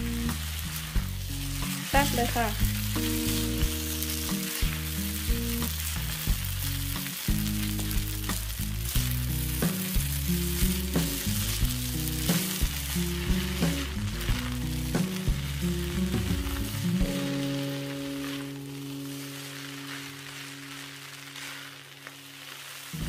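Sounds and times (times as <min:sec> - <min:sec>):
background music: 0:00.0 - 0:23.0
rice sizzling in a wok: 0:00.0 - 0:23.0
spatula stirring and scraping: 0:00.0 - 0:23.0.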